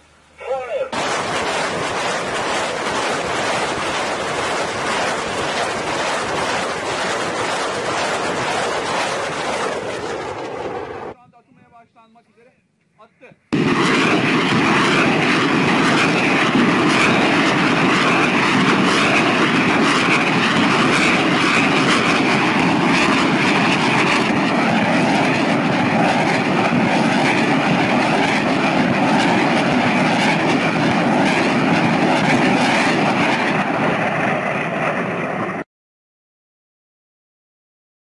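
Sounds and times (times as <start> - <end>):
rocket launcher firing salvo: 0.5 - 11.2, 13.5 - 33.7.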